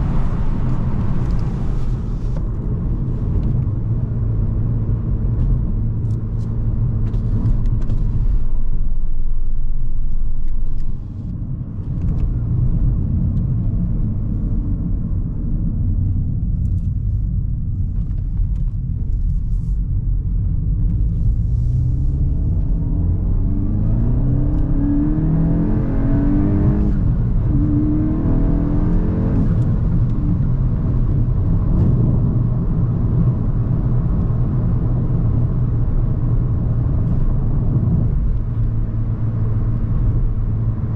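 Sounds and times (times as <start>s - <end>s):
car engine rumbling and revving: 0.0s - 40.9s.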